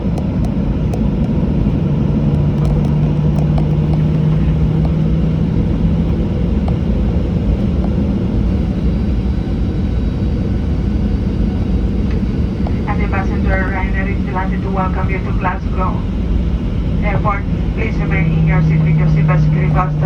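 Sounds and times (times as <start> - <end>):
low rumble of engines and wheels: 0.0 - 20.0
steady hum: 0.0 - 20.0.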